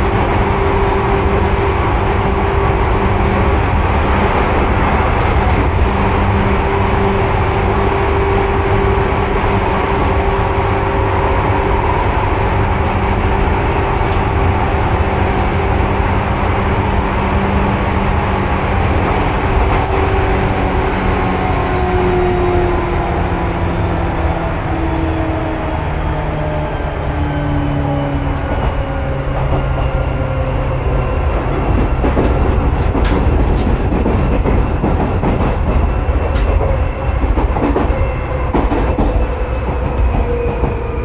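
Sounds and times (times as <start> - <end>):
traction motors humming and whining: 0.0 - 41.0
wheel-on-rail rumble: 0.0 - 41.0.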